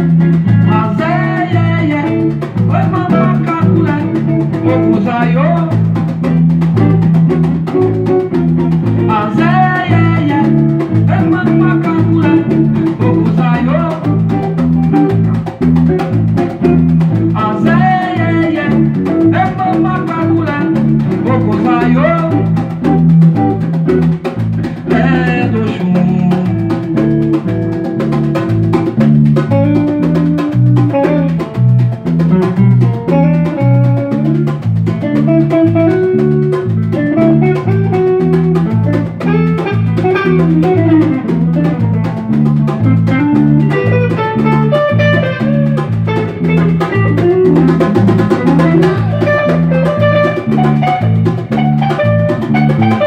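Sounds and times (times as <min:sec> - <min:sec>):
bass guitar line: 0:00.0 - 0:53.0
drums and percussion: 0:00.0 - 0:53.0
plucked-string melody: 0:06.2 - 0:53.0.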